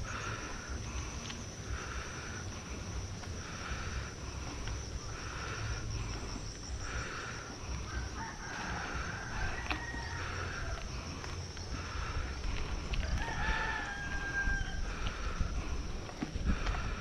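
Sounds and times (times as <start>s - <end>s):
heavy rapid breathing: 0.0s - 17.0s
wind and riding noise: 0.0s - 17.0s.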